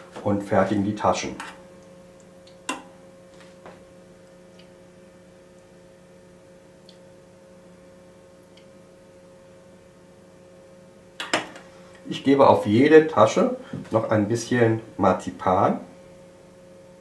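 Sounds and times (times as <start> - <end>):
fan oven humming: 0.0 - 17.0.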